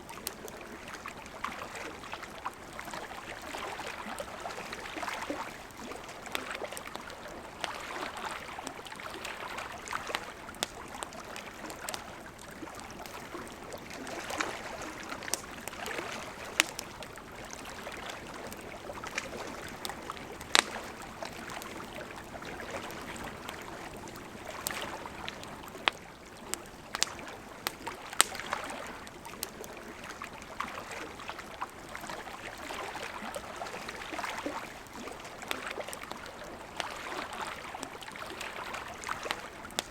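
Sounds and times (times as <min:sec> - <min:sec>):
campfire crackling: 0:00.0 - 0:39.9
lake waves lapping: 0:00.0 - 0:39.9.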